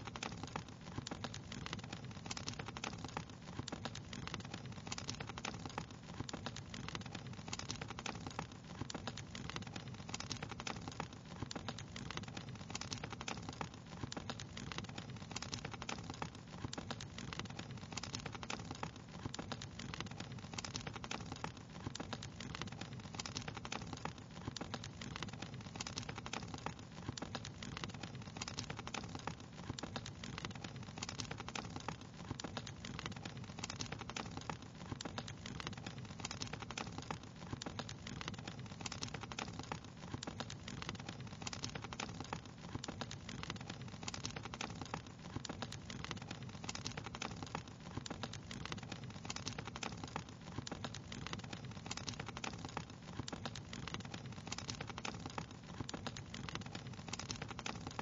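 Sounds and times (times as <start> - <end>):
low rumble of burning: 0.0 - 58.0
wood fire crackling: 0.0 - 58.0.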